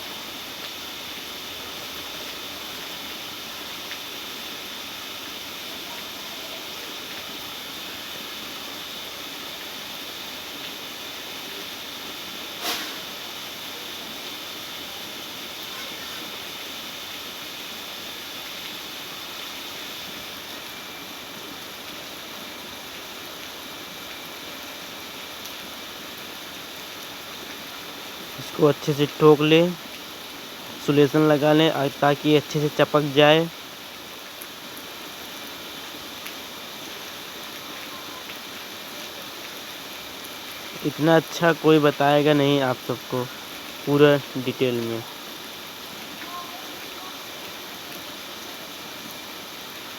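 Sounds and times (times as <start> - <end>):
background hiss: 0.0 - 49.9.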